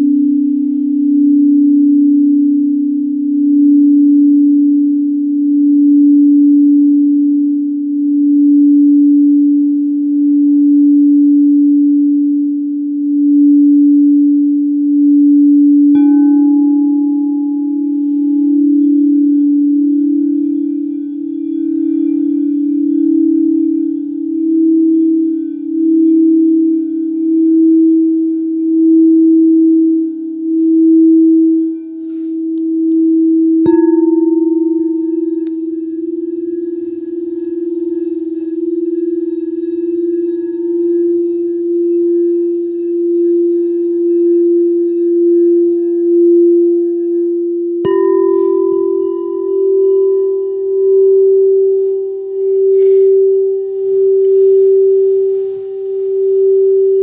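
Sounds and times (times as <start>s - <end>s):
singing bowl struck ringing: 0.0s - 57.0s
singing bowls pulsing tone: 0.0s - 57.0s.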